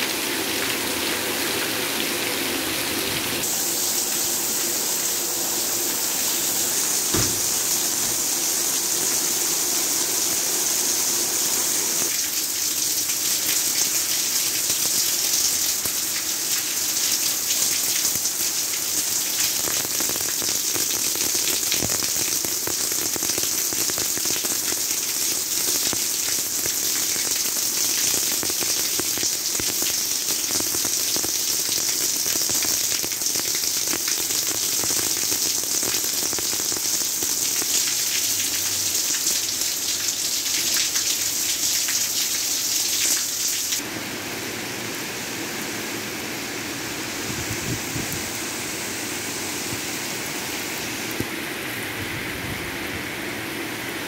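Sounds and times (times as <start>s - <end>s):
heavy rain on ground: 0.0s - 54.0s.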